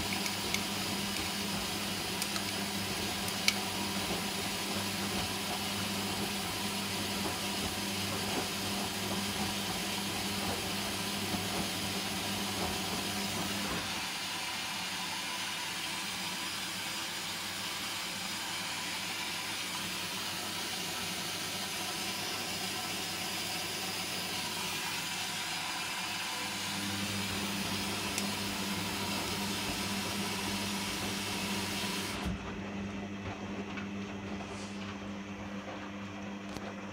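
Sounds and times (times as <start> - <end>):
washing machine motor hum: 0.0 - 36.9.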